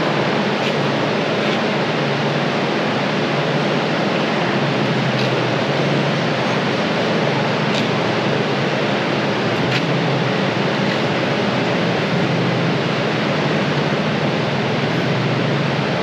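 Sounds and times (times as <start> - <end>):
loud rushing noise: 0.0 - 16.0
low hum: 0.0 - 16.0.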